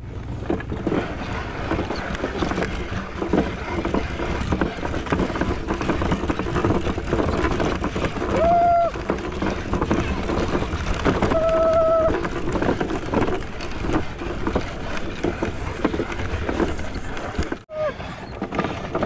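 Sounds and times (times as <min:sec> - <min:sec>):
go-kart wheels rumbling on road: 0:00.0 - 0:19.0.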